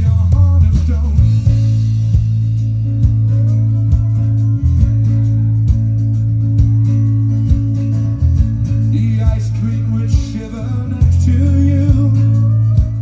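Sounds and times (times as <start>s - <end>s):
folk-rock band playing: 0.0s - 13.0s.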